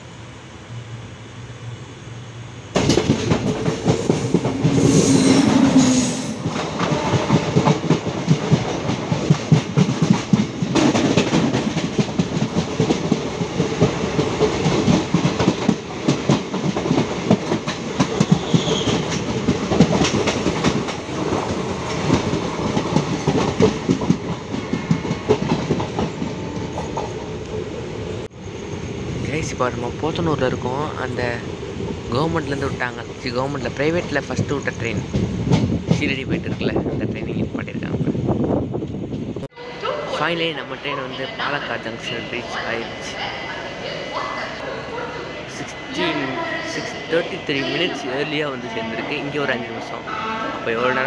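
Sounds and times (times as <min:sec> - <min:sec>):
train rumble: 0:00.0 - 0:51.0.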